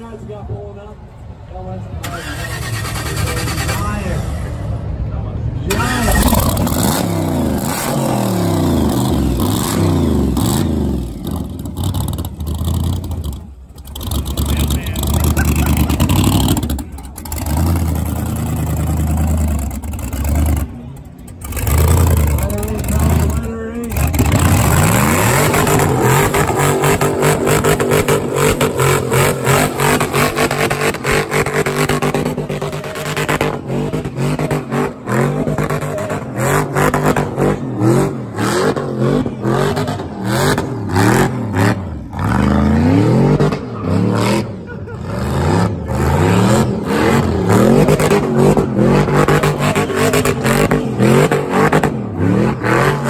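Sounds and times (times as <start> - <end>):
car engine revving loud: 5.7 - 53.0.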